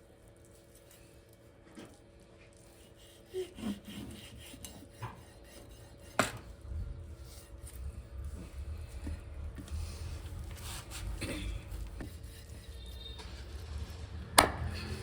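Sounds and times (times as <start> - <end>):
scraping and rubbing: 2.5 - 15.0.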